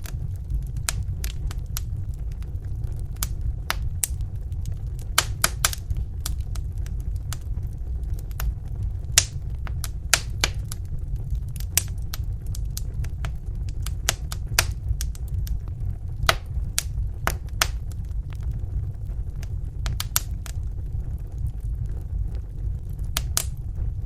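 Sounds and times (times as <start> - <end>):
steady low rumble: 0.0 - 24.0
wood fire crackling: 0.0 - 24.0.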